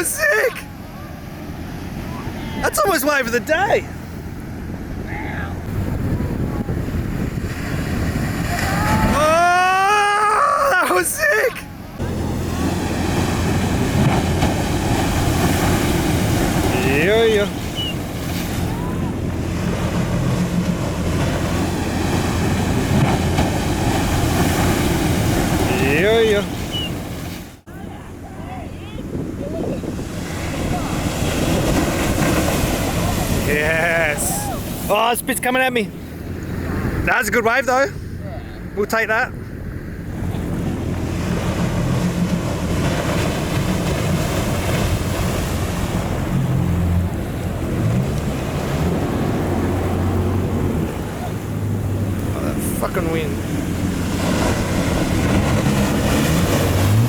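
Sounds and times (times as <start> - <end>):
ocean surf: 0.0 - 57.0
wind buffeting microphone: 3.9 - 9.4, 11.7 - 34.9, 35.9 - 57.0.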